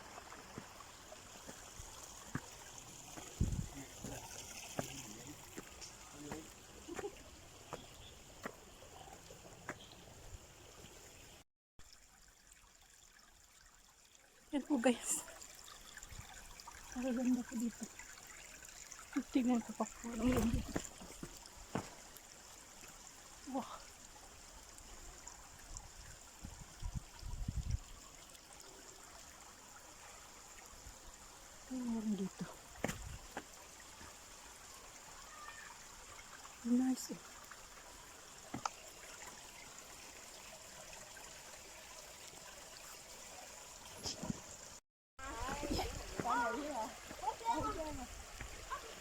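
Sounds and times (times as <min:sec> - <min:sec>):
creek trickling: 0:00.0 - 0:49.0
faint stream: 0:00.0 - 0:49.0.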